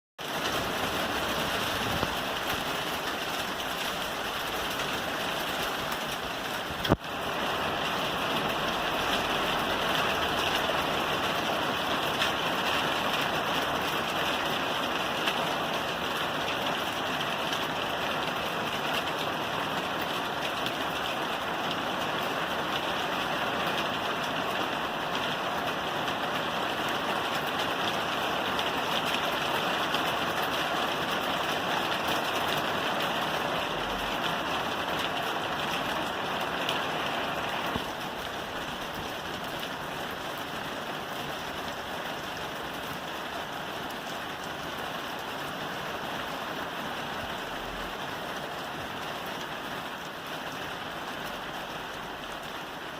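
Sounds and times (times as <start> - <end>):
rain falling on a roof: 0.2 - 52.9.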